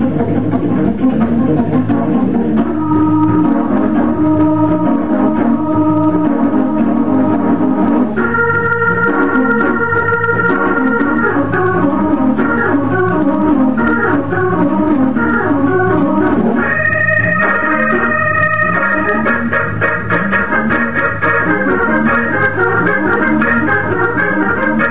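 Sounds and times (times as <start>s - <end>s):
gospel organ playing: 0.0s - 24.9s.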